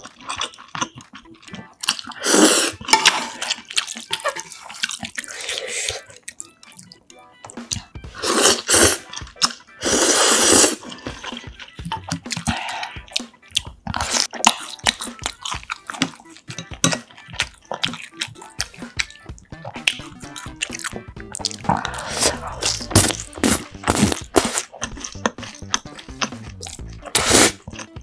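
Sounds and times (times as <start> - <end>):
noodles slurped: 0.0 - 7.0, 7.7 - 28.0
wet chewing: 0.0 - 28.0.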